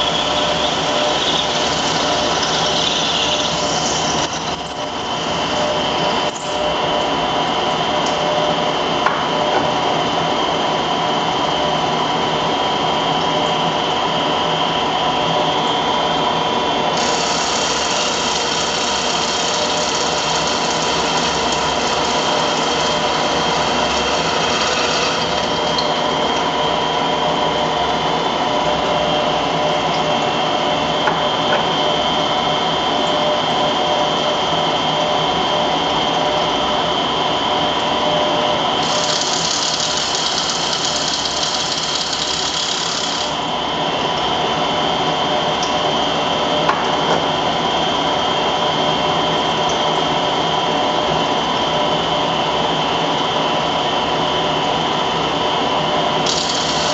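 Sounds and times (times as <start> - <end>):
lathe machine hum: 0.0 - 56.9.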